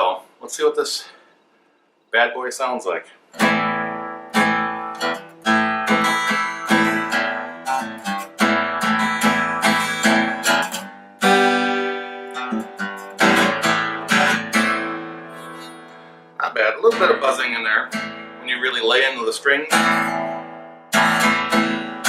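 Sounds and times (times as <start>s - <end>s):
acoustic guitar strumming chords: 3.3s - 22.0s
guitar string buzz: 3.4s - 18.7s, 19.7s - 22.0s.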